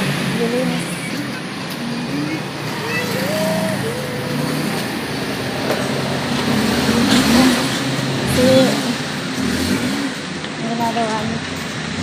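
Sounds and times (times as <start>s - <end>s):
street traffic noise: 0.0s - 12.0s
vehicle engine running: 0.0s - 12.0s.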